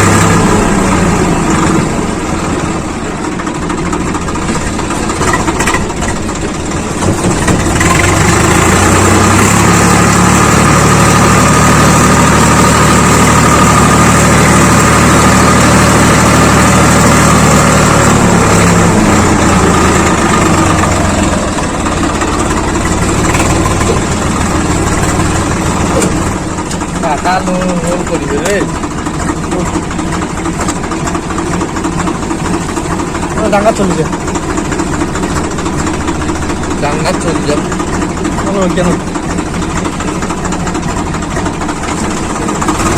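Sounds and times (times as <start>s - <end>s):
tractor diesel engine revving: 0.0s - 42.9s.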